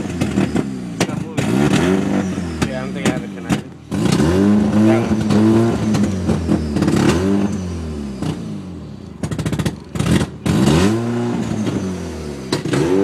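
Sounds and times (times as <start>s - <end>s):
exhaust crackling: 0.0s - 13.0s
rotary engine revving: 0.0s - 13.0s.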